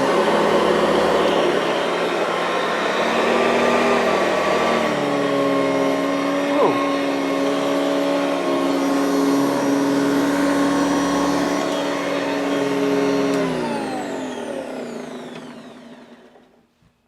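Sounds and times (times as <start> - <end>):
vacuum cleaner motor running: 0.0 - 16.7.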